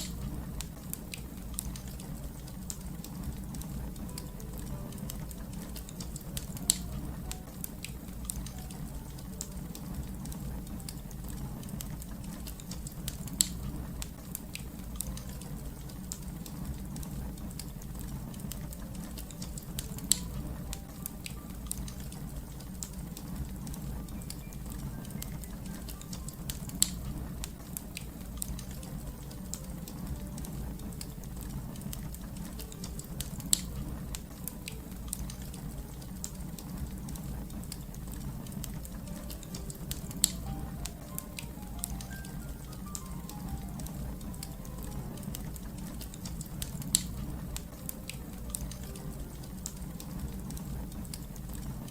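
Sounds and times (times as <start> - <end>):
low steady rumble: 0.0 - 51.9
wood fire crackling: 0.0 - 51.9.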